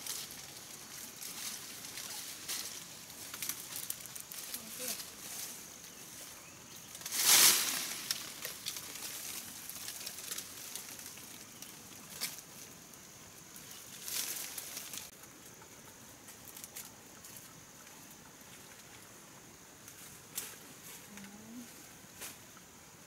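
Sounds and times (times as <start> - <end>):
leaves and stems rustling: 0.0 - 23.0.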